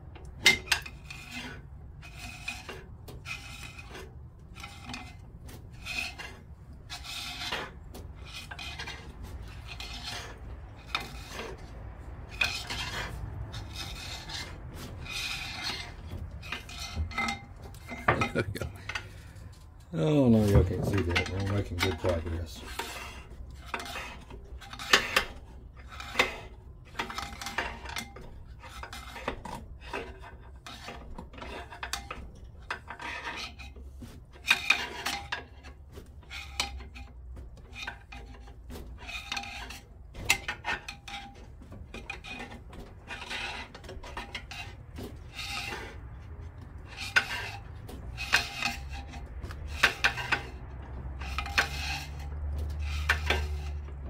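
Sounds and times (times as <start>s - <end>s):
metal tools clinking and scraping: 0.1s - 54.0s.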